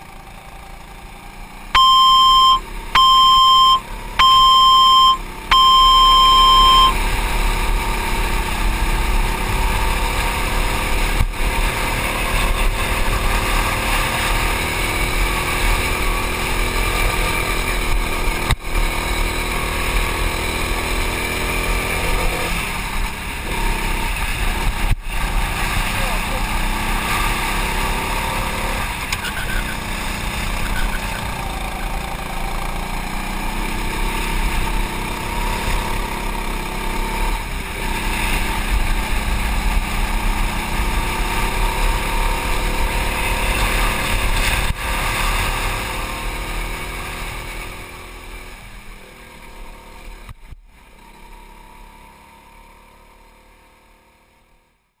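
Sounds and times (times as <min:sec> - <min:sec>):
go-kart engine revving: 0:00.0 - 0:54.3.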